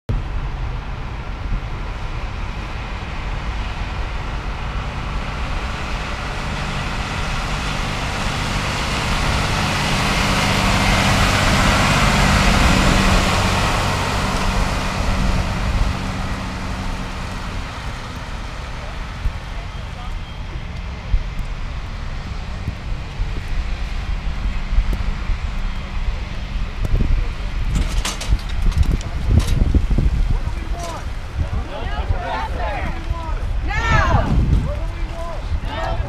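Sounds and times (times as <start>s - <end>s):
heavy truck engine hum: 0.1s - 36.0s.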